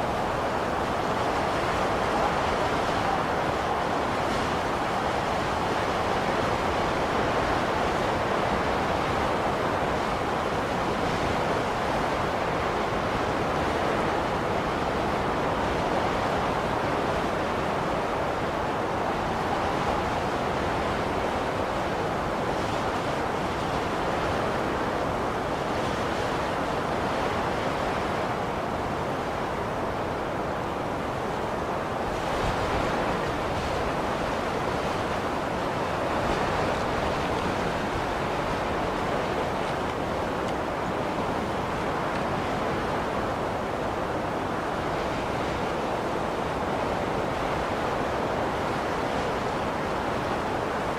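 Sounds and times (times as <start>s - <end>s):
blizzard wind blowing: 0.0s - 50.9s.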